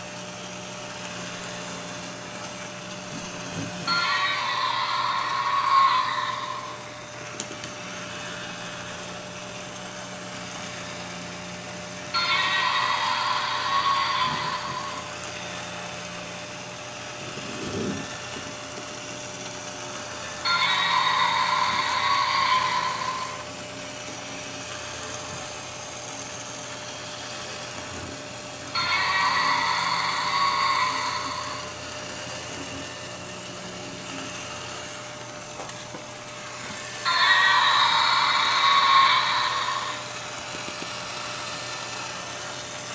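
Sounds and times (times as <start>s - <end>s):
small motor humming: 0.0s - 42.9s
high-pitched whine: 0.9s - 42.9s.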